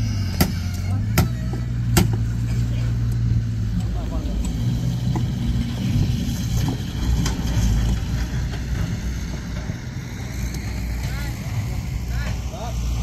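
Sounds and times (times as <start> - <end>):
engine running with low hum: 0.0 - 13.0.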